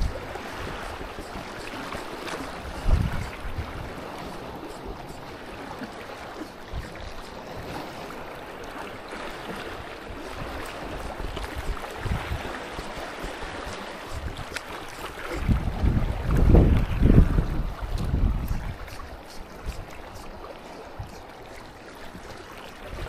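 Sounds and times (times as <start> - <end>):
wind buffeting microphone: 0.0 - 8.4, 9.1 - 21.4.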